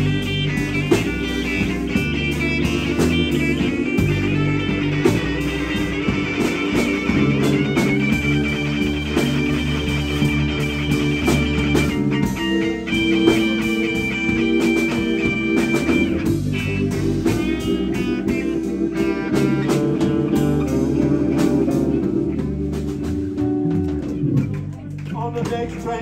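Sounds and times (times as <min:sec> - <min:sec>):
bass guitar: 0:00.0 - 0:26.0
drums: 0:00.0 - 0:26.0
electric guitar lead: 0:00.0 - 0:26.0.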